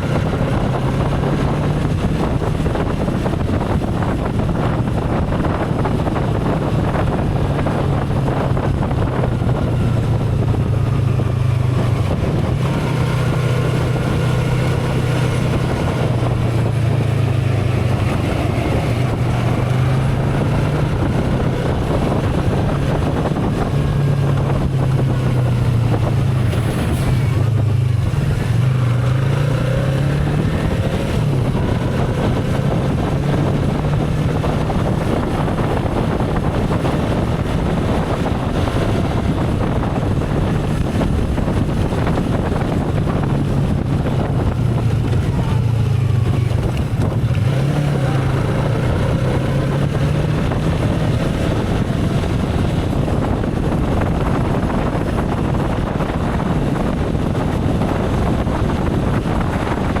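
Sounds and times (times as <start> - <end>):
motorcycle engine running: 0.0 - 60.0
wind noise on microphone: 0.0 - 60.0.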